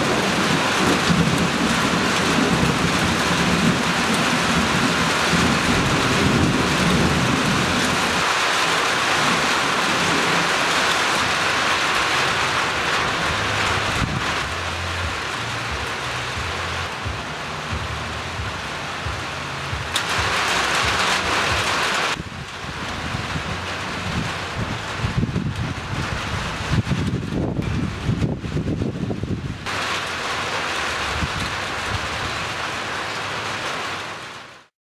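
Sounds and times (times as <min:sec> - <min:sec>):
rolling thunder: 0:00.0 - 0:30.0
heavy rain falling: 0:00.0 - 0:34.7.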